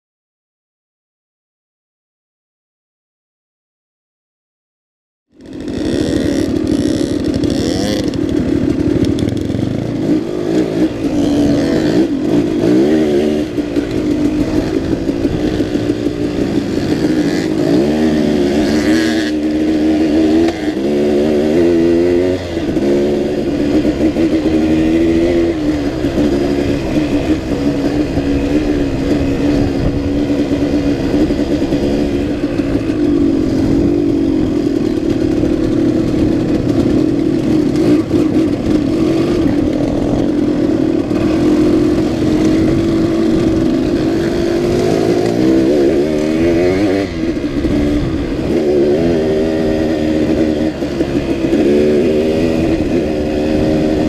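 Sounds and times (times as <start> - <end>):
dirt bike engine revving: 5.4 - 54.0.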